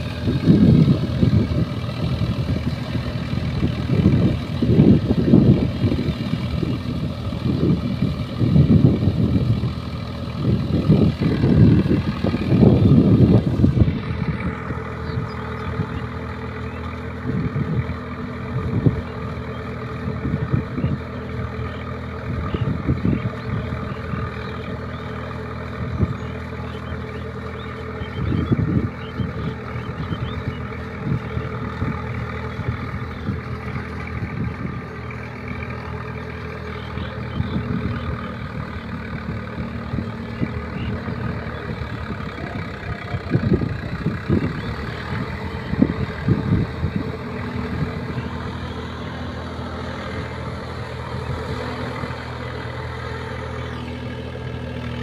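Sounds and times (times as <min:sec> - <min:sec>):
low rumbles: 0:00.0 - 0:55.0
tractor diesel engine running: 0:00.0 - 0:55.0.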